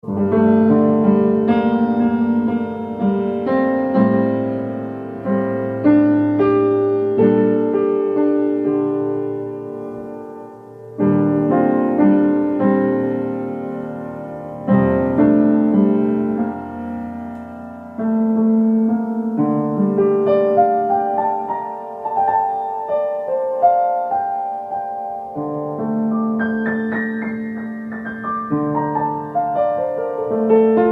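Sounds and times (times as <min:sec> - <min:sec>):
solo piano music: 0:00.0 - 0:30.9.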